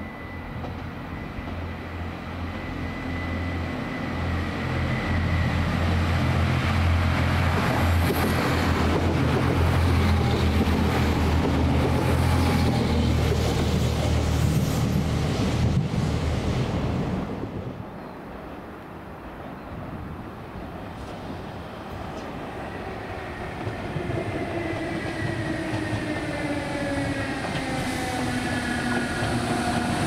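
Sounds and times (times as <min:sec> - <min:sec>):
diesel train rumbling: 0:00.0 - 0:18.5, 0:20.7 - 0:30.0.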